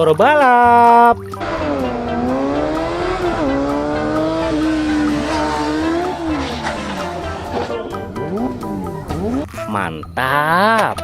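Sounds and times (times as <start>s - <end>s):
motorbike engine revving: 0.0s - 10.3s.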